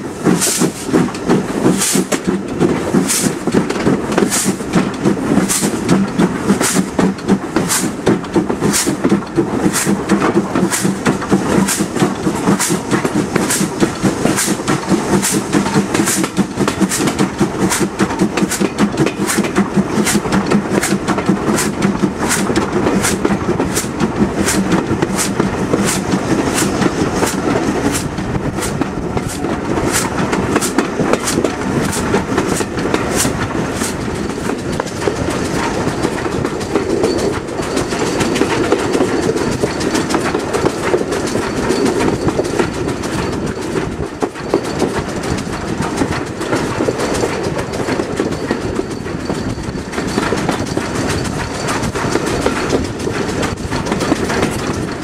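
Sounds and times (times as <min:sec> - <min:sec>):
train rumble and rattle: 0:00.0 - 0:55.0
train wheels clicking over rail joints: 0:00.0 - 0:55.0.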